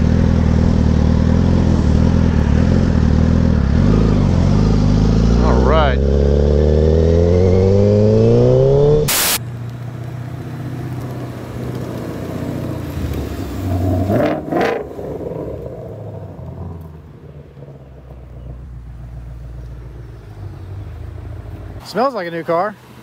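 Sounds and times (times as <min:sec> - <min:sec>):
motorcycle engine accelerating: 0:00.0 - 0:09.7, 0:11.0 - 0:21.7
car engine rumbling low: 0:00.0 - 0:22.3.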